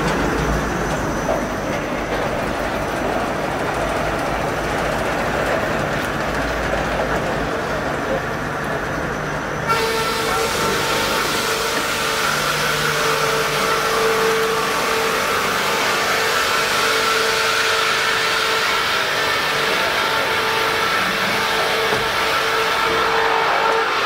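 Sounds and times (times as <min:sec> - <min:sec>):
sawmill machinery rumbling: 0:00.0 - 0:24.0.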